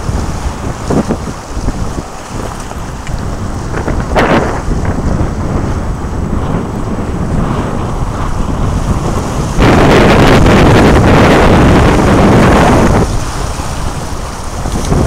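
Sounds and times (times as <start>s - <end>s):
choppy sea water: 0.0s - 15.0s
wind buffeting microphone: 0.0s - 15.0s.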